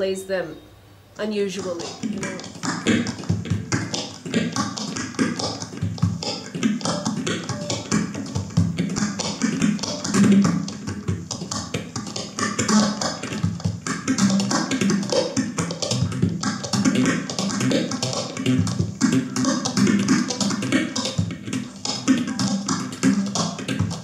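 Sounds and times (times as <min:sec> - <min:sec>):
percussive acoustic guitar: 0:01.6 - 0:24.0.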